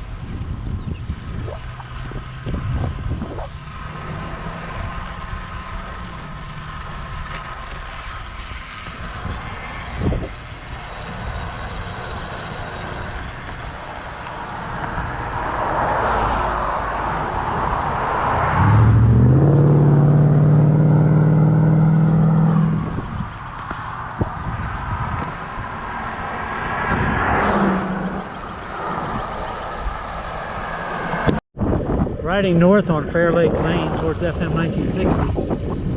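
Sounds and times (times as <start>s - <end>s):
steady engine hum: 0.0s - 35.9s
vehicle tyre noise: 0.0s - 35.9s
wind and road noise cycling: 0.0s - 35.9s.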